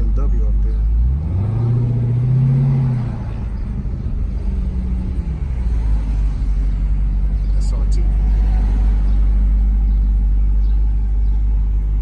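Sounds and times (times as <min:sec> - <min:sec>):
car engine revving: 0:00.0 - 0:12.0
low road rumble: 0:00.0 - 0:12.0.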